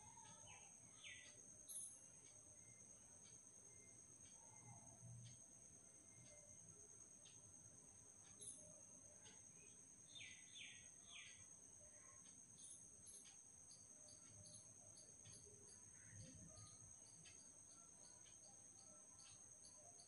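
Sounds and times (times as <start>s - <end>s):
high-pitched insect trill: 0.0s - 20.0s.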